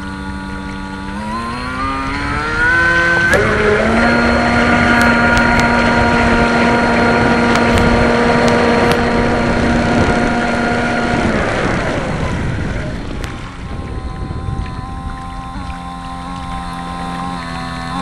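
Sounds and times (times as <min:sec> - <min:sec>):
electric motor whining: 0:00.0 - 0:18.0
water rushing and spray: 0:00.0 - 0:18.0.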